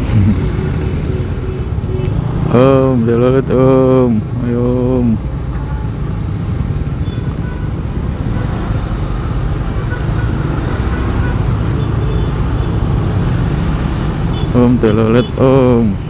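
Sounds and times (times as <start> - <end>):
motorcycle engine and road rumble: 0.0 - 16.0.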